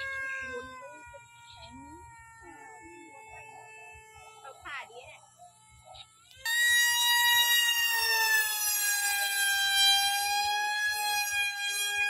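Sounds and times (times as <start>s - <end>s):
model airplane motor whining: 0.0s - 12.0s.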